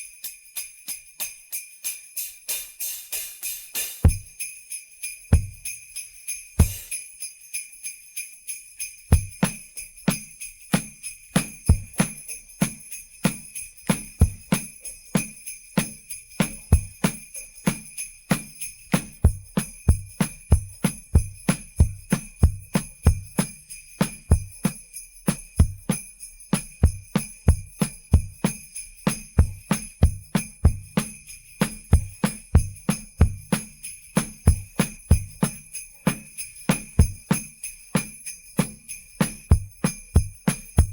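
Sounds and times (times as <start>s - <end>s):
sleigh bells jingling: 0.0s - 40.9s
drum beat: 2.5s - 4.4s, 5.3s - 5.7s, 6.6s - 7.0s, 9.1s - 40.9s.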